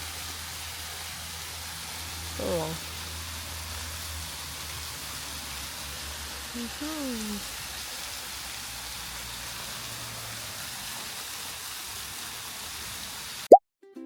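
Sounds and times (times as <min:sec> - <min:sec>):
water rushing: 0:00.0 - 0:13.5.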